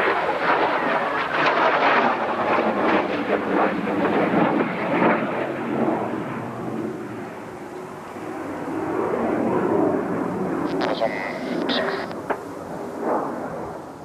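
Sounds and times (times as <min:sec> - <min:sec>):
jet roar flying over: 0:00.0 - 0:14.0.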